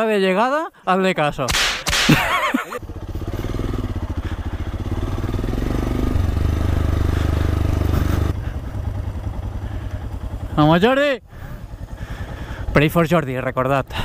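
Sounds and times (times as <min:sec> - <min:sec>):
motorcycle engine chugging: 0:02.1 - 0:14.0.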